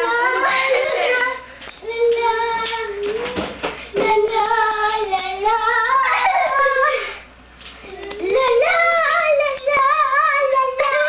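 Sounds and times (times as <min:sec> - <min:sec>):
young child singing: 0:00.0 - 0:07.2, 0:07.9 - 0:11.0.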